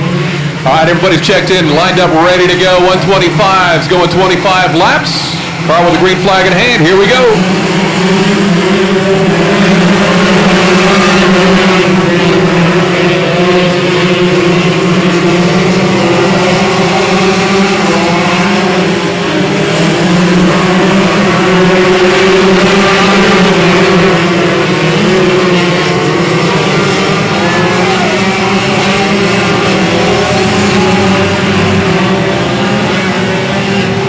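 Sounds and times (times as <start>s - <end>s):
race car engines: 0.0s - 34.0s.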